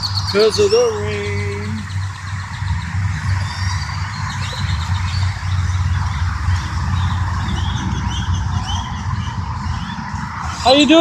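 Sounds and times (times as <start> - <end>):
birds chirping: 0.0 - 11.0
low rumble: 0.0 - 11.0.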